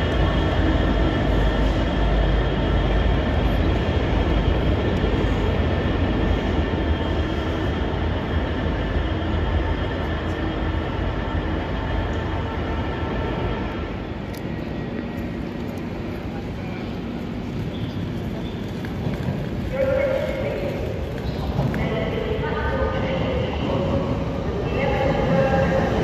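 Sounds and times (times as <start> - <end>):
diesel locomotive engine rumbling: 0.0 - 26.0.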